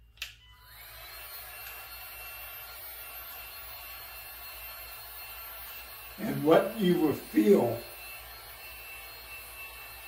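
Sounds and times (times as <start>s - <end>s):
heat gun fan blowing hiss: 0.1s - 10.0s.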